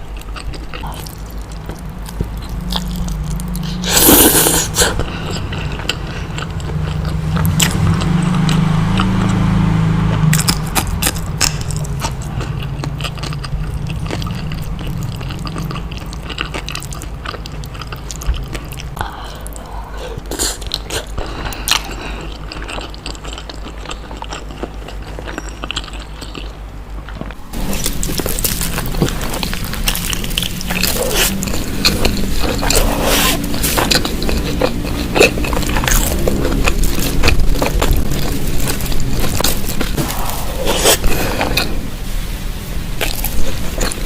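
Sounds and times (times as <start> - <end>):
low rumble: 0.0 - 20.3, 26.8 - 44.0
wet mouth chewing: 0.0 - 41.9, 43.0 - 44.0.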